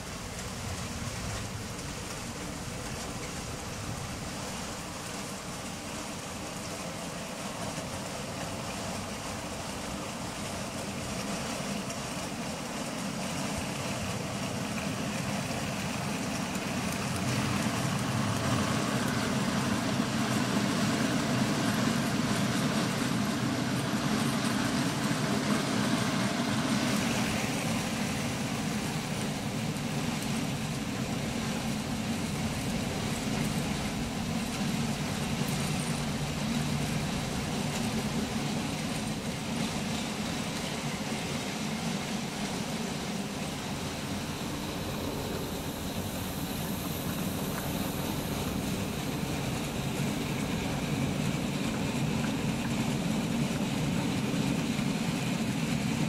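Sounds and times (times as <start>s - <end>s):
model train running on track: 0.0s - 56.0s.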